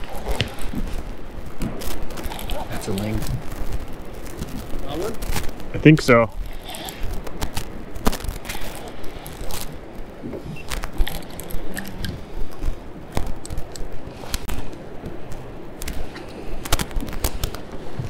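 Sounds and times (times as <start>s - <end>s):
water: 0.0s - 18.0s
wind: 0.0s - 18.0s.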